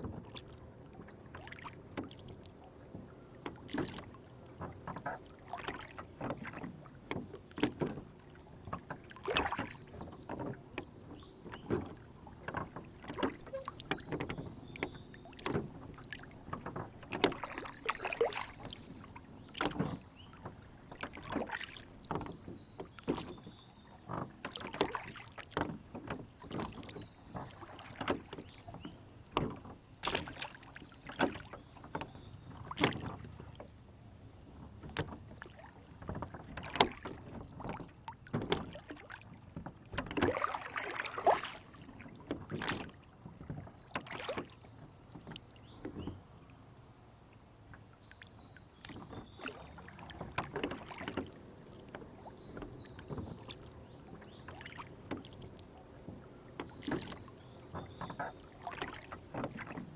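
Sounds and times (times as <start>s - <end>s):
water lapping against a boat: 0.0s - 59.9s.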